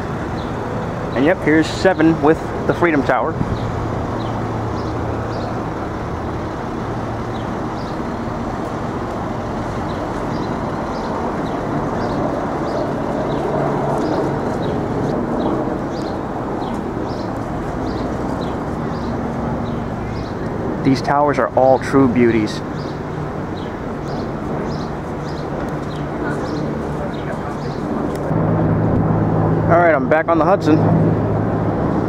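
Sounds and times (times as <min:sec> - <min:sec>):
low engine hum: 0:00.0 - 0:32.0
passing cars: 0:00.0 - 0:32.0.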